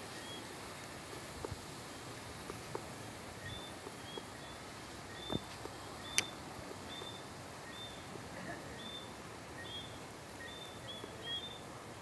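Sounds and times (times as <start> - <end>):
background hiss: 0.0 - 12.0
tree frogs chirping: 1.4 - 8.1, 8.7 - 11.7.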